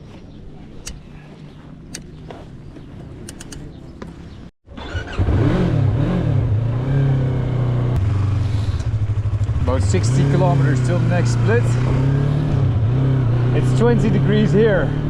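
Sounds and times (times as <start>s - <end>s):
motorcycle engine revving: 1.9s - 15.0s.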